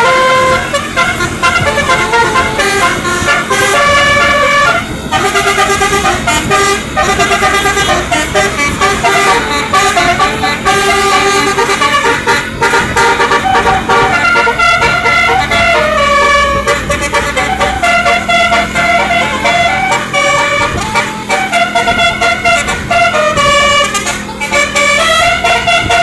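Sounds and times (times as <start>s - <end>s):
bus horns playing a tune: 0.0s - 26.0s.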